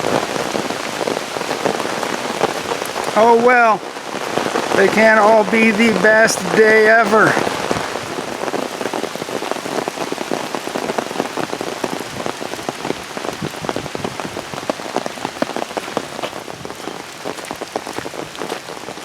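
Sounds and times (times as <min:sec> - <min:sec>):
rain hissing: 0:00.0 - 0:19.0
raindrops ticking on umbrella: 0:00.0 - 0:19.0.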